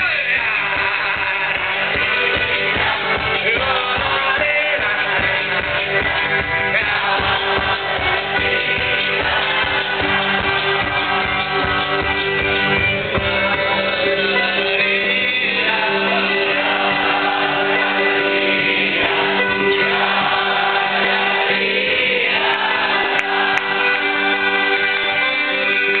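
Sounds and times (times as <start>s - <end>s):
acoustic guitar chords: 0.0s - 26.0s
crowd singing along: 0.0s - 26.0s
accordion: 0.1s - 26.0s.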